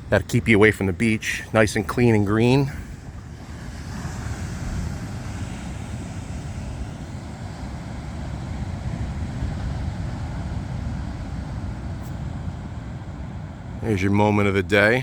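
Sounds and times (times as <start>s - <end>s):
wind on microphone: 0.0s - 13.8s
ocean waves breaking: 0.0s - 15.0s.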